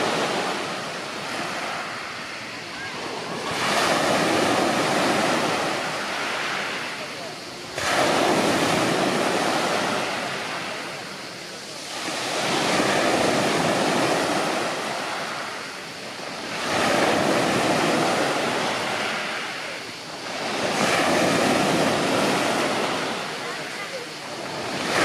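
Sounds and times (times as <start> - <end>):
sea waves washing: 0.0 - 25.0.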